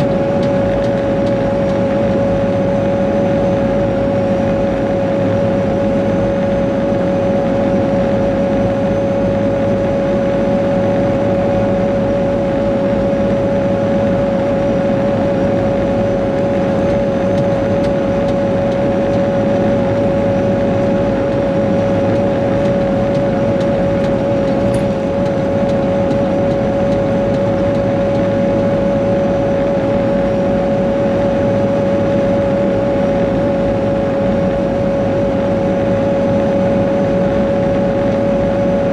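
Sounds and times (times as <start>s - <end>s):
diesel engine rumble: 0.0s - 38.9s
steady high whine: 0.0s - 38.9s.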